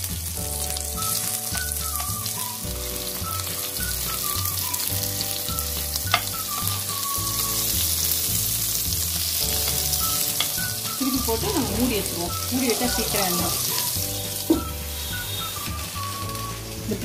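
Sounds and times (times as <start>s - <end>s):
patties sizzling in a pan: 0.0s - 17.0s
soft background music: 0.0s - 17.0s.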